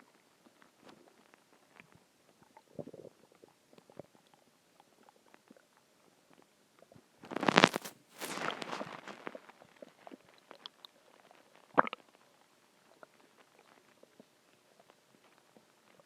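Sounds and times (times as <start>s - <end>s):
stomach growling: 0.0s - 16.0s
stomach gurgling: 0.0s - 16.0s.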